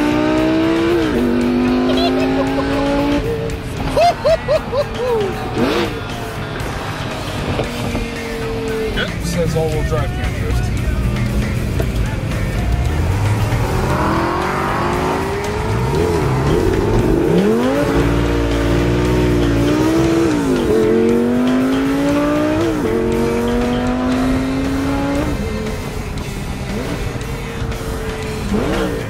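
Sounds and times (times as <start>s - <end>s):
car engine accelerating through gears: 0.0s - 4.0s, 4.9s - 9.5s, 11.1s - 29.0s.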